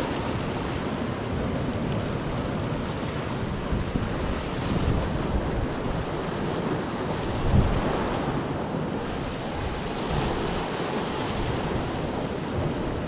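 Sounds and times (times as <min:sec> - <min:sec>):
sea surf breaking on rocks: 0:00.0 - 0:13.0
wind buffeting microphone: 0:00.0 - 0:13.0.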